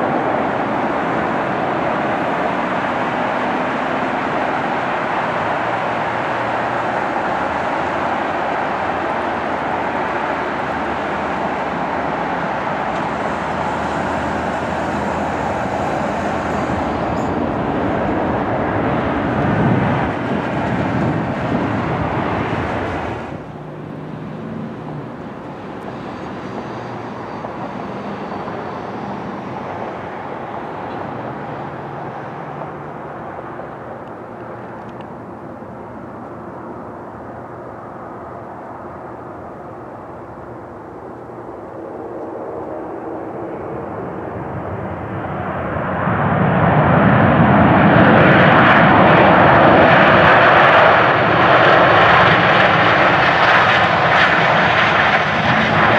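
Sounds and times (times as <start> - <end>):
jet airliner on approach: 0.0 - 55.9
jet airliner roaring on landing: 0.0 - 55.9.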